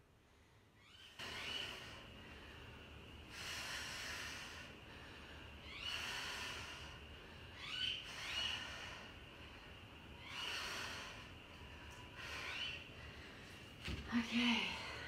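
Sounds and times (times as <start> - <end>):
woman breathing hard: 0.2 - 15.0.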